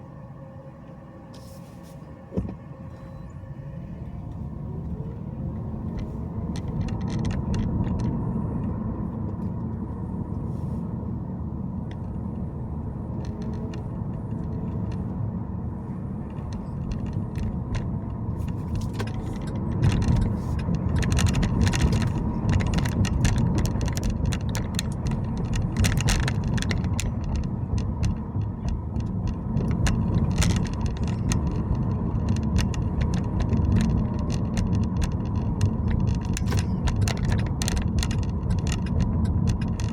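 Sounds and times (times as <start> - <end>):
car road and engine rumble: 0.0 - 39.9
light clicks and rattles: 4.2 - 39.9.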